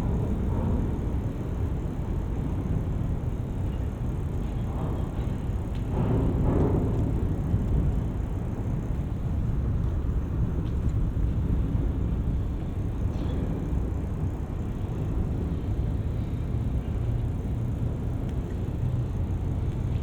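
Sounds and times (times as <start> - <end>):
traffic rumble on road bridge: 0.0 - 20.0.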